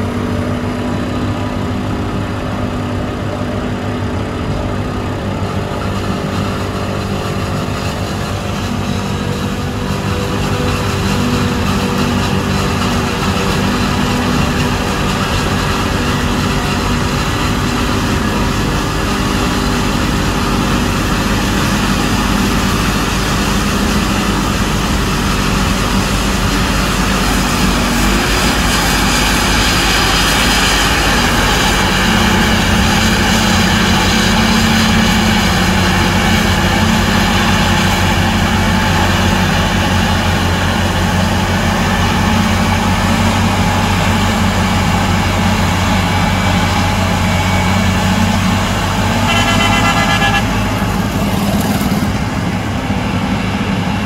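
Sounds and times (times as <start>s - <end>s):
forage harvester engine running: 0.0s - 54.0s
tractor engine: 0.0s - 54.0s.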